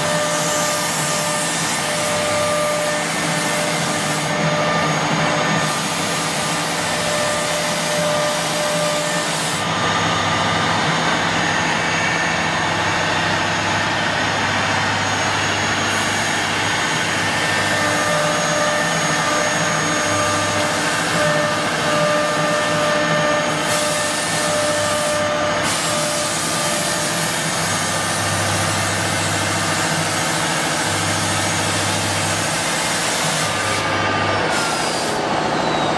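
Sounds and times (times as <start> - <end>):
router spindle whine: 0.0 - 35.9.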